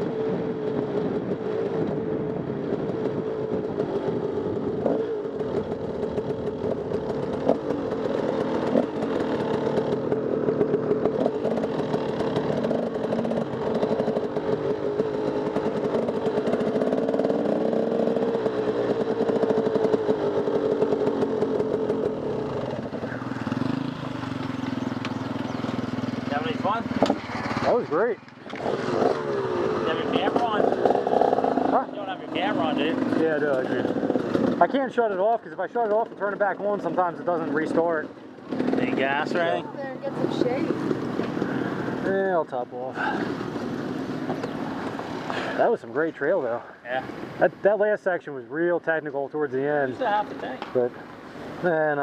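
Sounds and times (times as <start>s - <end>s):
dirt bike engine running: 0.0s - 47.5s.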